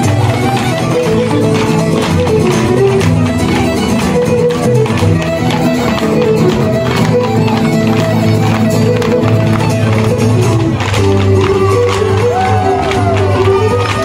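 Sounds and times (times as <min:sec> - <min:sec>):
sharp taps: 0:00.0 - 0:12.3
fiddle dance music: 0:00.0 - 0:14.0.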